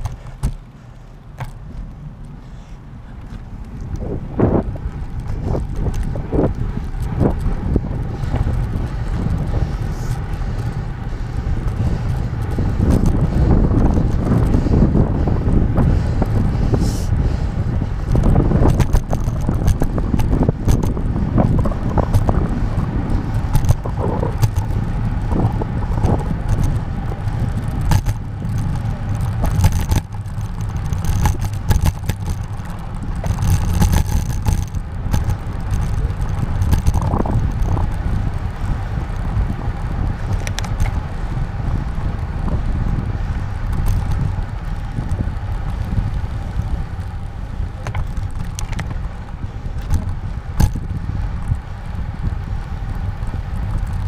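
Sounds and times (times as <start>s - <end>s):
bike rattles and knocks: 0.0s - 54.0s
tyres on road: 0.0s - 54.0s
wind on microphone: 0.0s - 54.0s.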